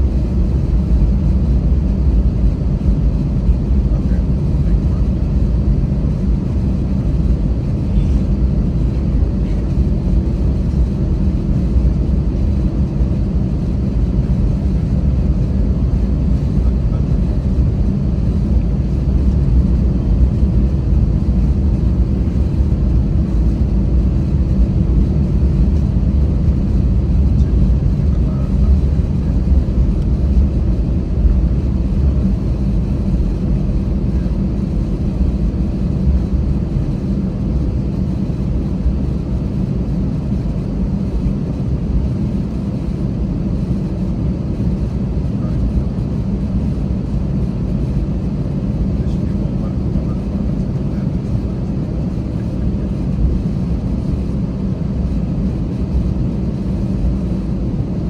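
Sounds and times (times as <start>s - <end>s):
faint steady hum: 0.0s - 58.0s
jet engines and airflow rumble: 0.0s - 58.0s.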